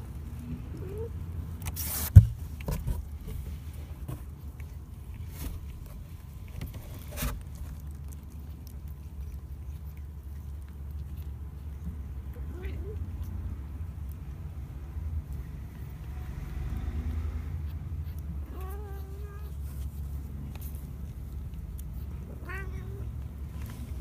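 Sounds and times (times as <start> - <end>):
kittens shuffling: 0.0 - 24.0
low steady rumble: 0.0 - 24.0.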